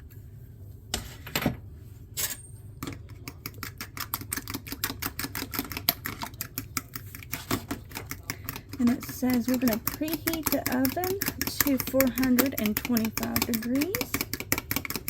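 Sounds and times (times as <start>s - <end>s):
utensil beating egg in bowl: 2.8s - 15.0s.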